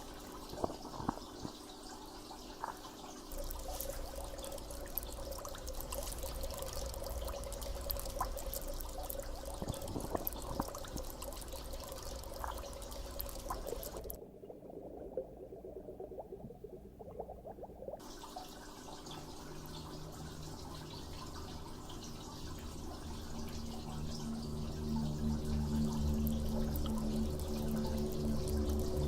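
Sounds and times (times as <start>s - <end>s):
small splashy drips: 0.0s - 29.0s
water running and trickling: 0.0s - 29.0s.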